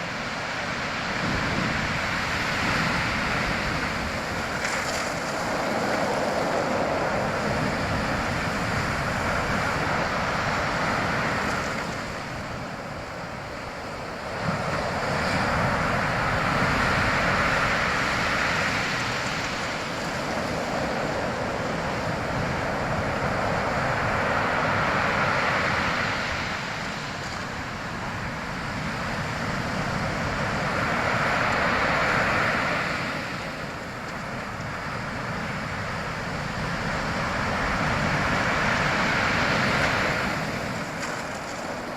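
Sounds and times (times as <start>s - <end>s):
waves washing in: 0.0s - 41.9s.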